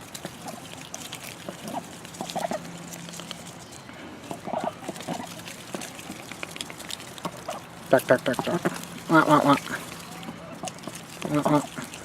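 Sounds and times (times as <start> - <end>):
beaks pecking: 0.0 - 12.0
poultry soft calls: 1.4 - 12.0.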